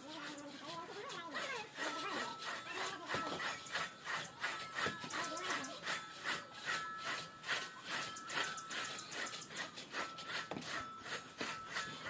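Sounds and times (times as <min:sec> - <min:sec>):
hand saw cutting wood: 0:00.0 - 0:12.0.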